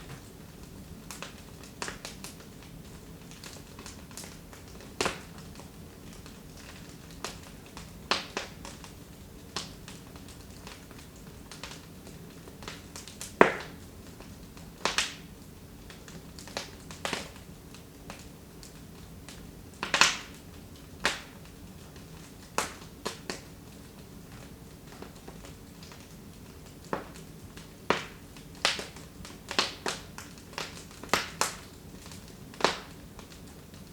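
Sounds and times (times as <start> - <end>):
low steady fire background: 0.0 - 33.9
wood fire crackling and popping: 0.0 - 33.9.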